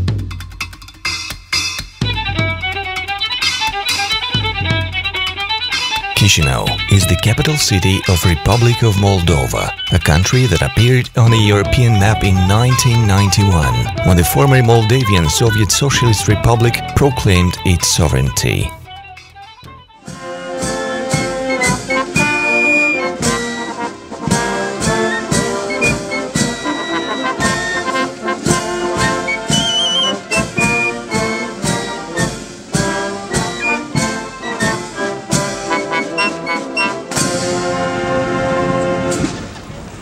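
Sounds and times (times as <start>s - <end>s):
military brass band music: 4.3s - 39.6s.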